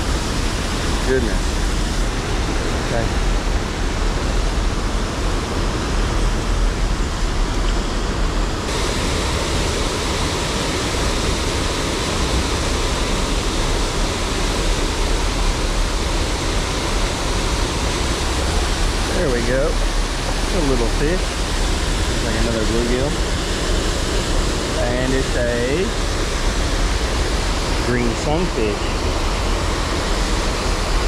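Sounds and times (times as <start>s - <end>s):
waterfall rushing over rocks: 0.0s - 31.0s.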